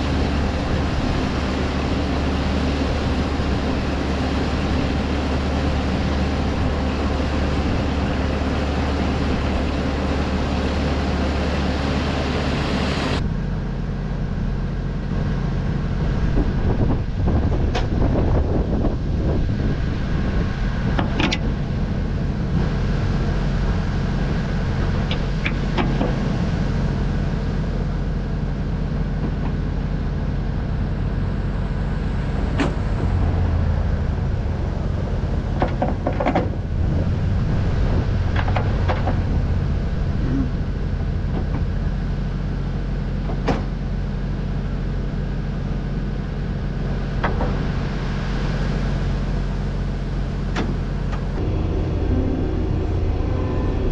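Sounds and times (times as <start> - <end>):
engine humming: 0.0 - 53.9.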